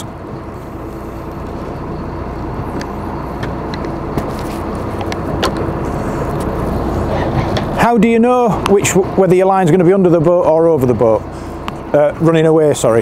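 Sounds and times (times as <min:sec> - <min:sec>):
boat engine idling: 0:00.0 - 0:13.0
wind: 0:00.0 - 0:13.0.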